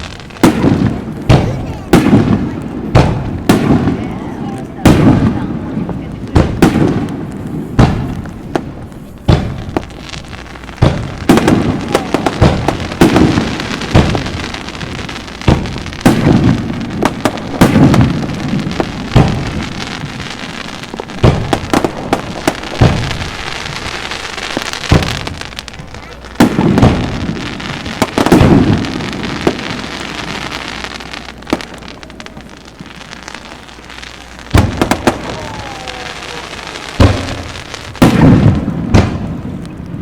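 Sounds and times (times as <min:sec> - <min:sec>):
crackling hiss of fireworks: 0:00.0 - 0:40.0
fireworks booming: 0:00.0 - 0:40.0.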